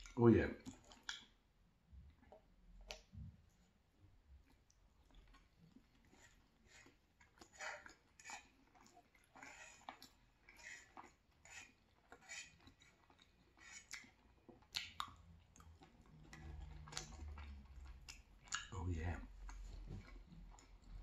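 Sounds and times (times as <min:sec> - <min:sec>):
close-miked chewing: 0:00.0 - 0:21.0.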